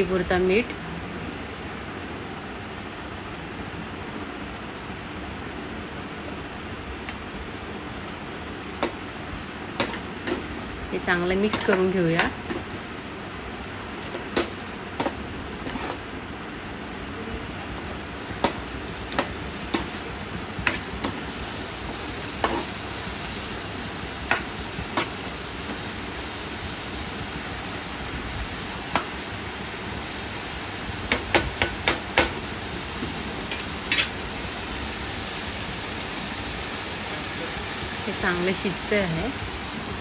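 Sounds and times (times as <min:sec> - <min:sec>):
masala sizzling in a pan: 0:00.0 - 0:40.0.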